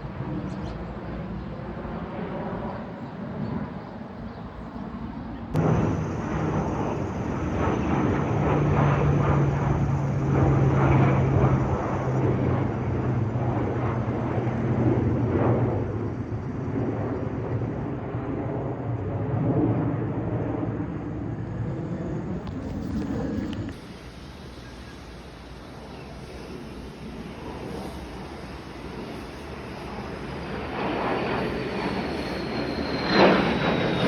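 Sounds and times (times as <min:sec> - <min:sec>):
airplane engine drone: 0:00.0 - 0:34.0.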